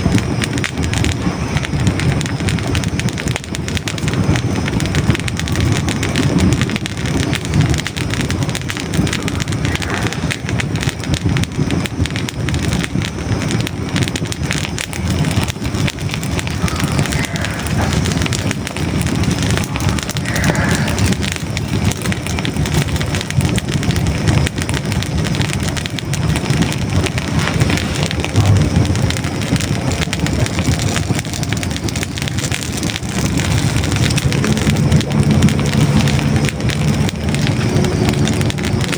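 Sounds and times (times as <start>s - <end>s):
fire crackling and popping: 0.0s - 38.9s
flames rushing: 0.0s - 38.9s.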